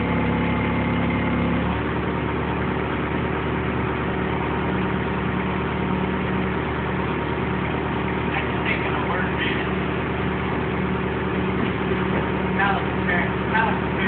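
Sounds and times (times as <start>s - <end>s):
forklift engine running: 0.0s - 14.0s.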